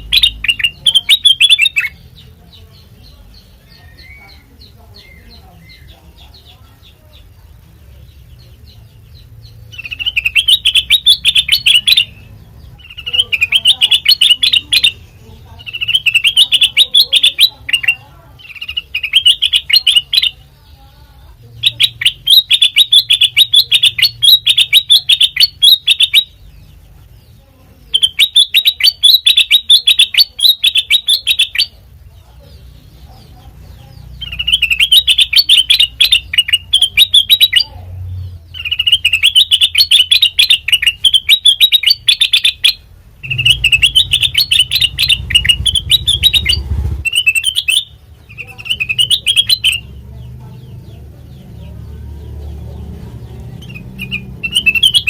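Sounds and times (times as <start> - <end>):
songbird chattering song: 0.0 - 55.0.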